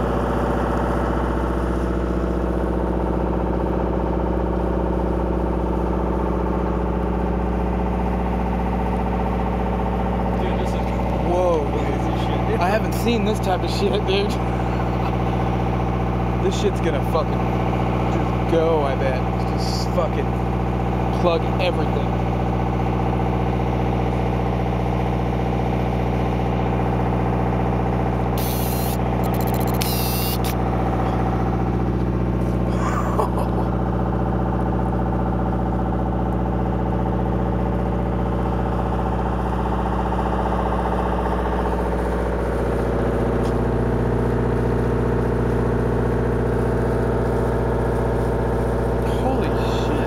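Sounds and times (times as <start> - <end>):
boat engine running: 0.0 - 22.2, 28.1 - 50.0.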